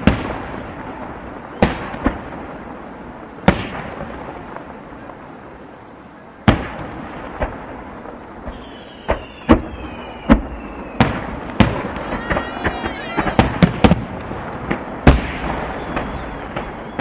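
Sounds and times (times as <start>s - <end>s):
firework booms with echo: 0.0s - 5.2s, 6.4s - 17.0s.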